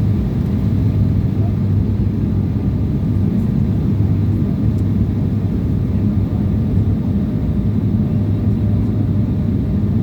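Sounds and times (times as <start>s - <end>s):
aircraft cabin engine drone: 0.0s - 10.0s.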